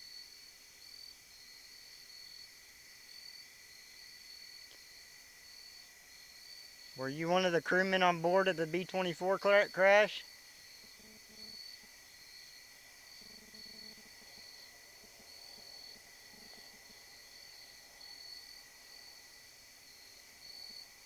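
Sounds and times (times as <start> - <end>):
crickets trilling: 3.2 - 20.9.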